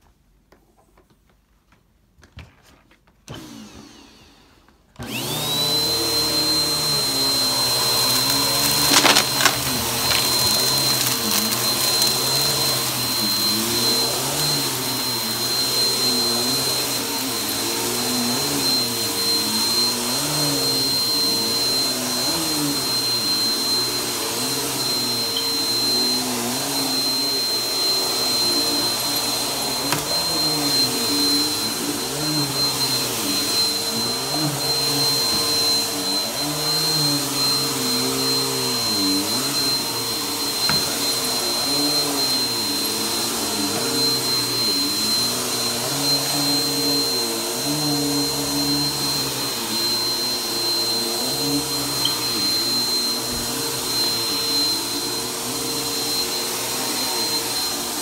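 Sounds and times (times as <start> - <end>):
vacuum cleaner motor whine: 3.3 - 58.0
vacuum pushed over carpet: 3.3 - 58.0.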